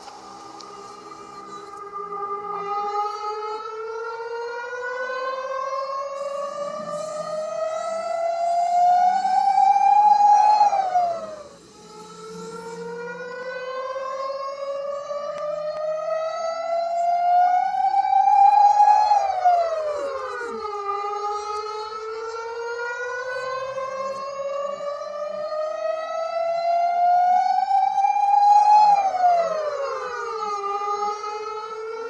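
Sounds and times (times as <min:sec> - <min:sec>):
reversed siren wail: 0:00.0 - 0:32.0.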